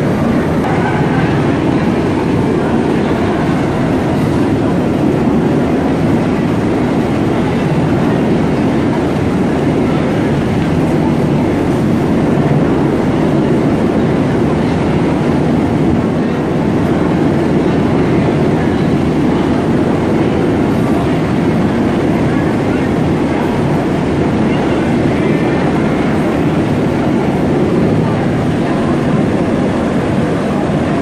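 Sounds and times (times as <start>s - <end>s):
helicopter rotor and turbine noise: 0.0s - 31.0s.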